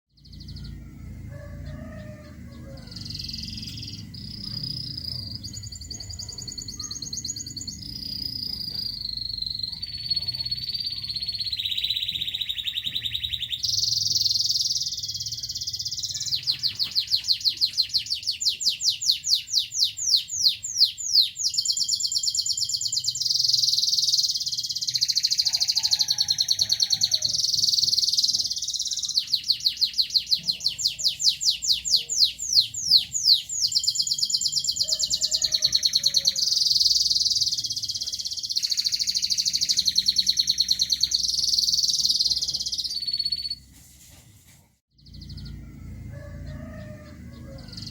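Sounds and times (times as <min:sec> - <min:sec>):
canary singing trills: 0:00.1 - 0:43.7, 0:44.9 - 0:47.9.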